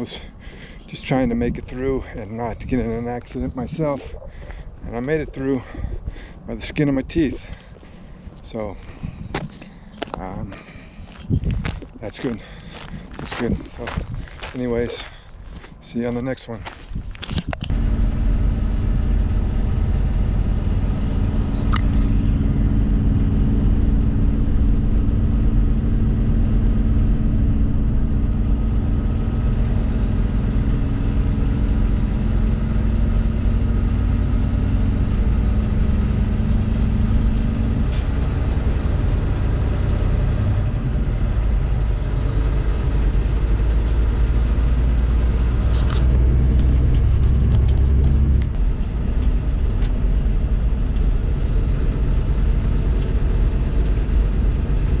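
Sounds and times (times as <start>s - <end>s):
truck engine rumble: 0.0s - 55.0s.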